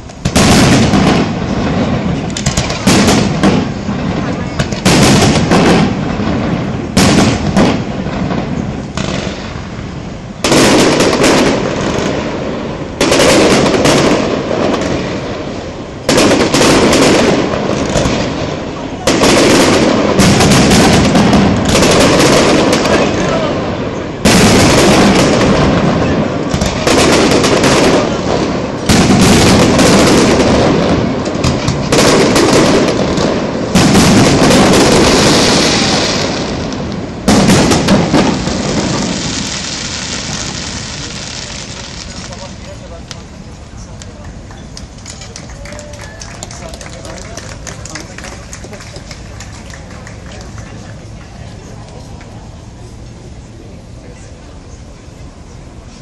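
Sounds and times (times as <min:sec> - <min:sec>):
firework shells bursting: 0:00.0 - 0:23.4, 0:24.0 - 0:50.8.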